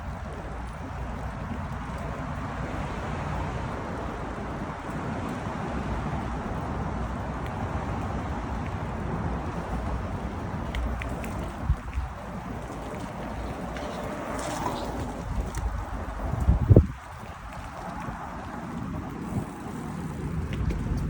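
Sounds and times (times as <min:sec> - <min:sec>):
road and traffic noise: 0:00.0 - 0:21.0
wind on microphone: 0:00.0 - 0:21.0.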